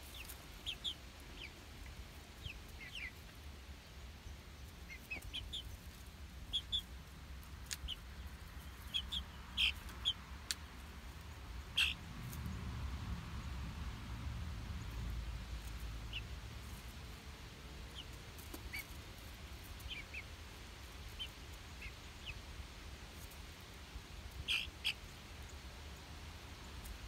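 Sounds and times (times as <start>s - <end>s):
chicks peeping: 0.0s - 12.6s, 14.7s - 27.0s.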